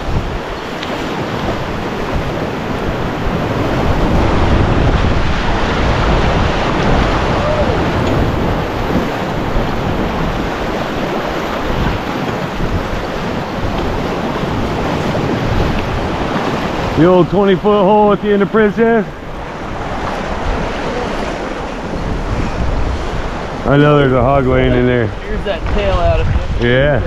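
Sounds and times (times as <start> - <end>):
rushing whitewater: 0.0 - 27.0
wind buffeting microphone: 0.0 - 27.0.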